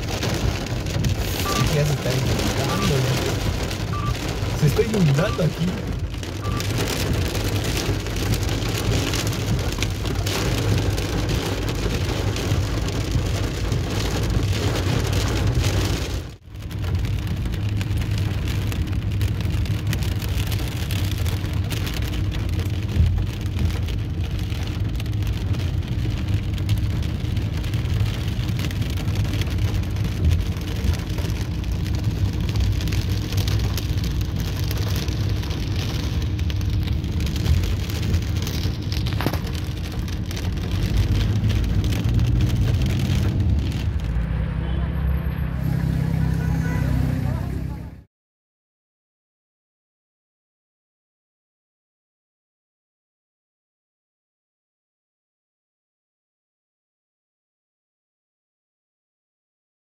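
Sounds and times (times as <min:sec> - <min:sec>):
heavy rain drumming on car: 0:00.0 - 0:48.1
low engine and road rumble: 0:00.0 - 0:48.1.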